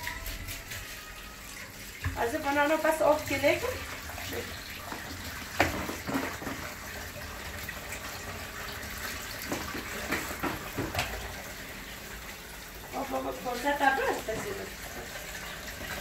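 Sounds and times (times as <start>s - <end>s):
water running from tap: 0.0s - 16.0s.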